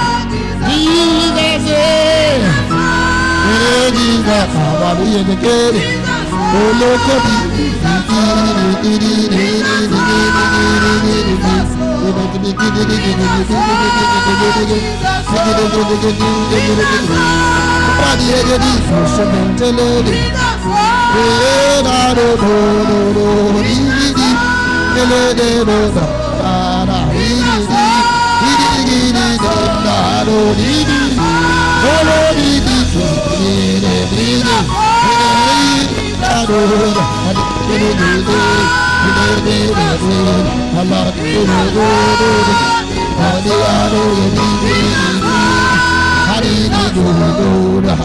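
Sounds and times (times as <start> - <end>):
person singing: 0.0 - 48.0.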